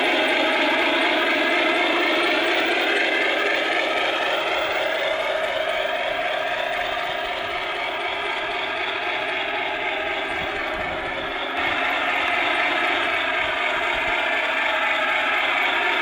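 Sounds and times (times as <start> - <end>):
model train rattling along track: 0.0 - 16.0.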